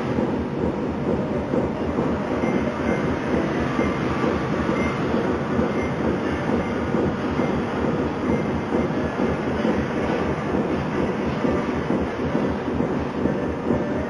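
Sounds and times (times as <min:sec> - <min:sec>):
machinery rumbling: 0:00.0 - 0:14.0.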